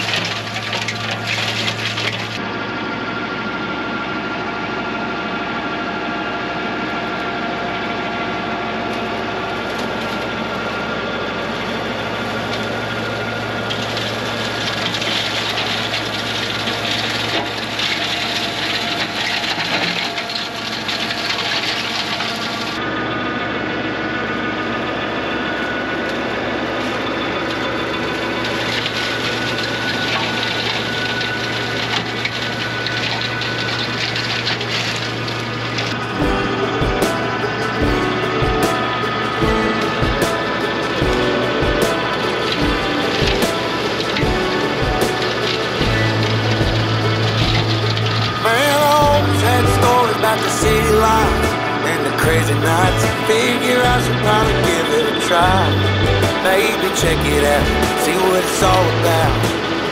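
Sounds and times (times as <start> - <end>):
flail mower shredding brush: 0.0 - 2.5, 6.6 - 23.2, 24.2 - 59.9
tractor engine hum: 0.0 - 59.9.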